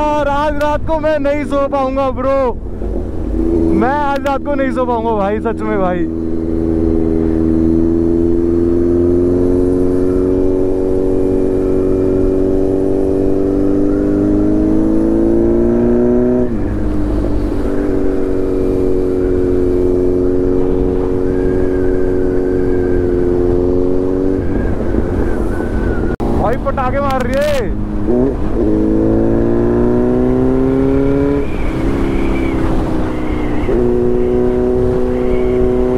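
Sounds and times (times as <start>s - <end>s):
motorcycle engine revving: 2.3s - 35.9s.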